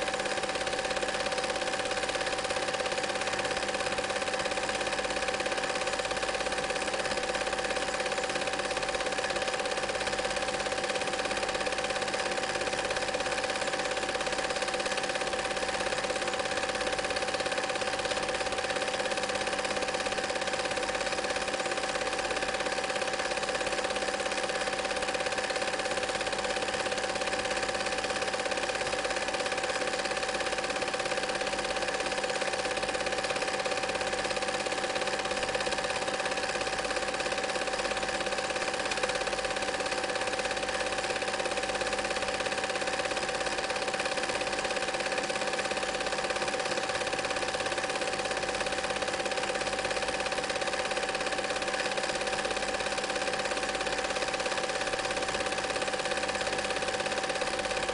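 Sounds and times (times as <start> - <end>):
film projector clatter: 0.0 - 57.9.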